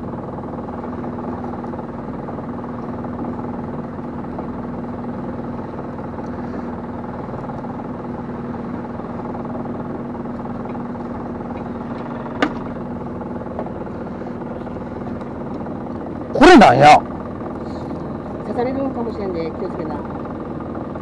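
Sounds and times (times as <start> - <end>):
boat engine idling hum: 0.0 - 21.0.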